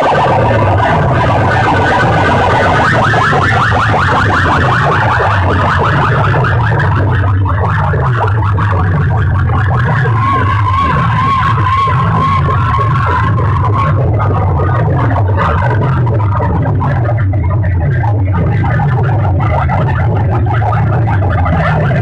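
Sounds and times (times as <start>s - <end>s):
loud amplified music with bass beat: 0.0s - 22.0s
warbling siren-like electronic effect: 0.0s - 22.0s.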